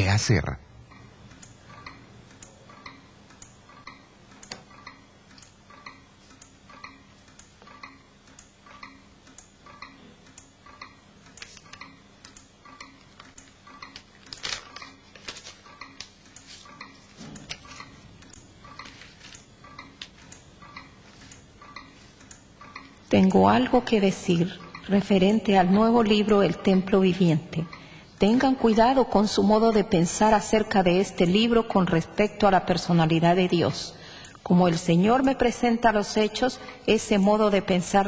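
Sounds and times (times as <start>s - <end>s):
clock ticking: 0.8s - 15.0s, 15.6s - 38.0s.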